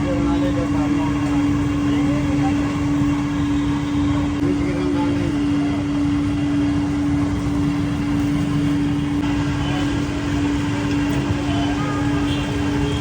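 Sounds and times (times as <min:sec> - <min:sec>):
machine humming and rumbling: 0:00.0 - 0:13.0.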